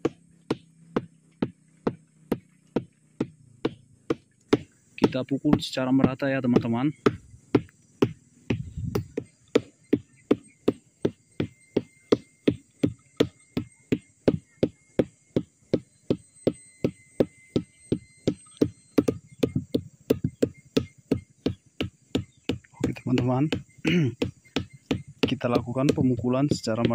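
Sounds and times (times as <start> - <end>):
dull knocks beating flower stalk: 0.0 - 26.9.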